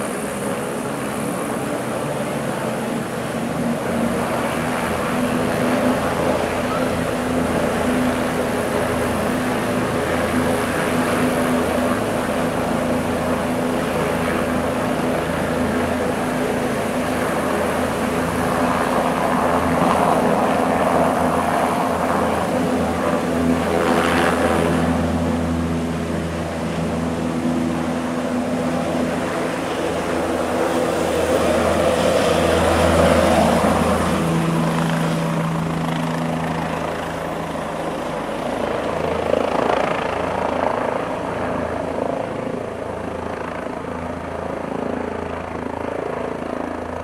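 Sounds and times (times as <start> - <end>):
helicopter engine and rotor: 0.0 - 47.0.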